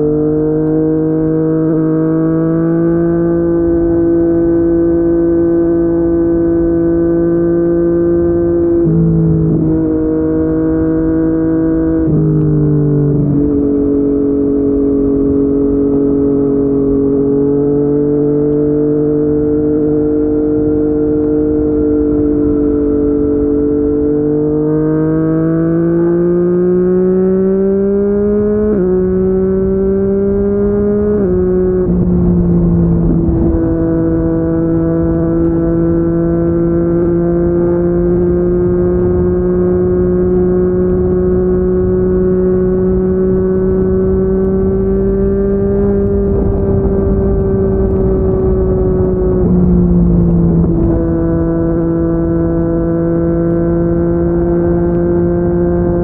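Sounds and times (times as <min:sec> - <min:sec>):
motorcycle accelerating and upshifting: 0:00.0 - 0:56.0
motorcycle engine cruising: 0:00.0 - 0:56.0.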